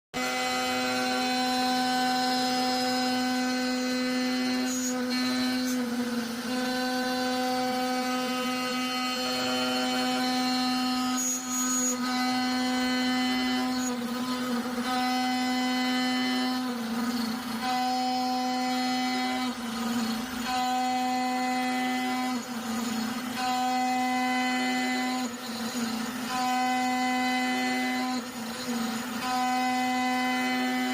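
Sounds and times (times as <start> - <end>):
router spindle whining: 0.2 - 30.9.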